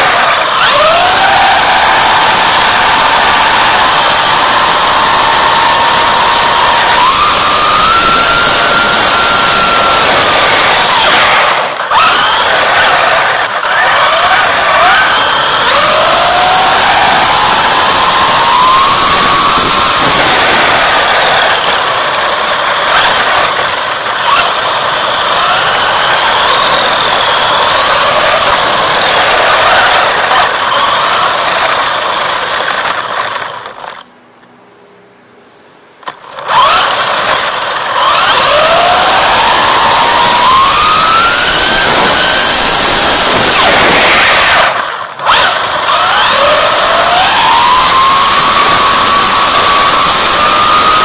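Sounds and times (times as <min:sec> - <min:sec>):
electric motor whining: 0:00.0 - 0:34.1, 0:36.0 - 0:51.0
tyre road noise: 0:00.0 - 0:34.5, 0:36.1 - 0:51.0.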